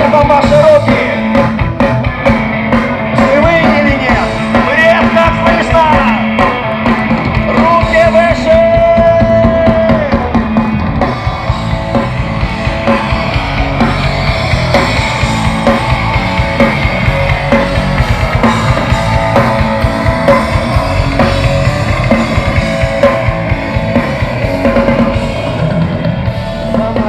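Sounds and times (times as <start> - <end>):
drum kit beat: 0.0 - 27.0
live rock band playing: 0.0 - 27.0.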